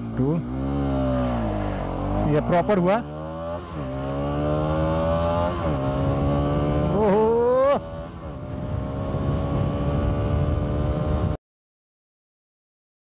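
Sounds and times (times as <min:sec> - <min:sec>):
motorcycle engine accelerating: 0:00.0 - 0:11.4.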